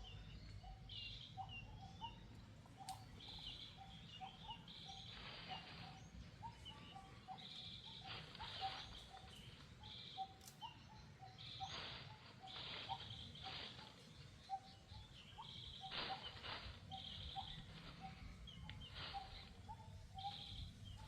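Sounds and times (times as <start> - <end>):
bird trills: 0.0 - 21.0
rising bird chirps: 0.0 - 21.0.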